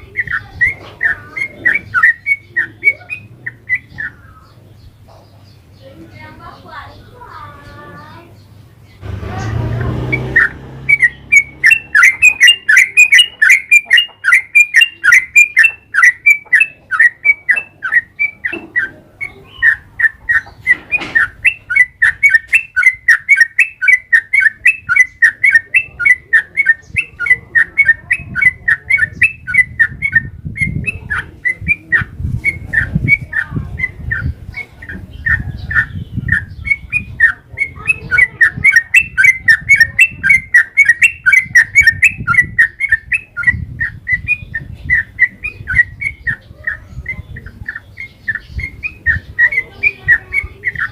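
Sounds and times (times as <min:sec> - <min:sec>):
bird rapid loud chirping song: 0:00.0 - 0:50.9.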